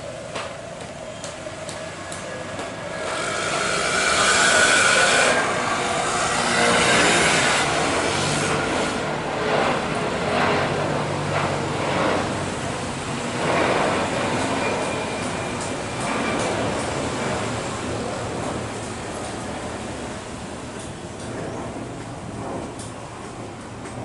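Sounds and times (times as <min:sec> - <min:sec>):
jet engines at take-off thrust: 0:00.0 - 0:24.0.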